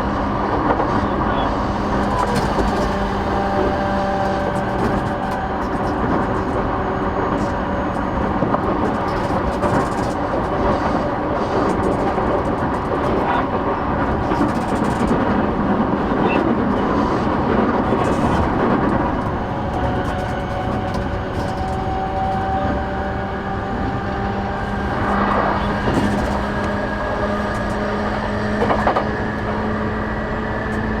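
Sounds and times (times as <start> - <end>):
traction motor hum: 0.0 - 31.0
train wheels rumbling on rail: 0.0 - 31.0.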